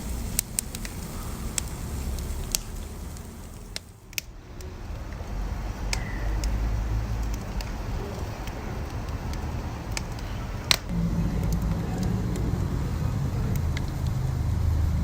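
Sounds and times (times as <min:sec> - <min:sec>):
low rumble: 0:00.0 - 0:15.0
wood fire crackling and popping: 0:00.0 - 0:15.0.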